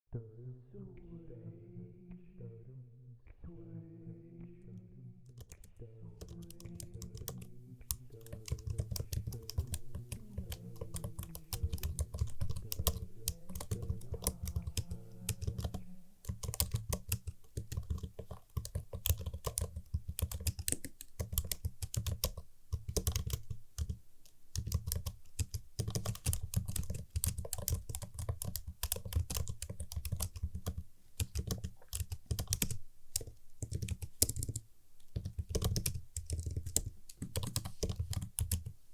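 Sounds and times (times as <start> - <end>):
fast keyboard typing: 5.4 - 38.8.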